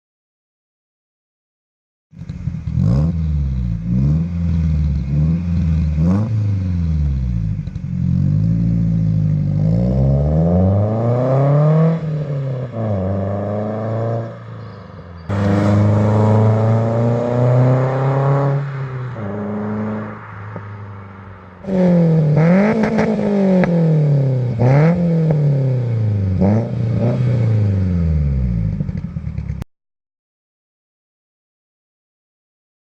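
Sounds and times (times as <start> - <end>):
car engine revving: 2.2 - 29.6.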